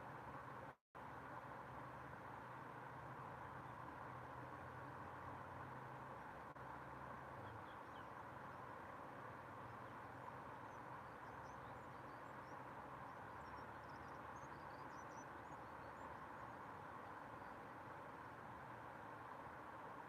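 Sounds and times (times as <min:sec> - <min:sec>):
river rushing: 0:01.1 - 0:20.0.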